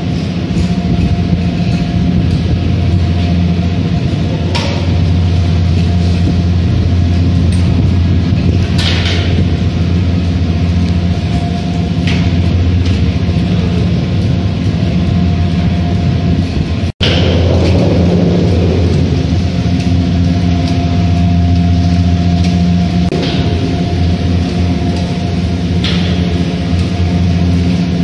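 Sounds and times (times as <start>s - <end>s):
gondola machinery rumbling: 0.0s - 28.0s
machinery rattles: 0.0s - 28.0s.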